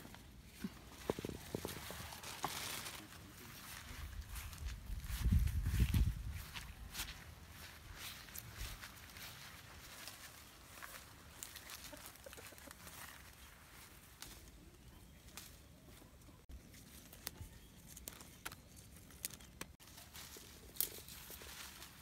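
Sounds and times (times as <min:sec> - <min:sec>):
leaves rustling: 0:00.0 - 0:22.0.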